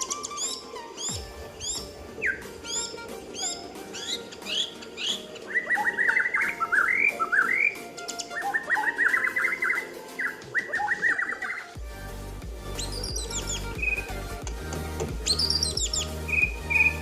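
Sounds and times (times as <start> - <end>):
songbird whistling and trilling: 0.0 - 11.8, 12.7 - 17.0.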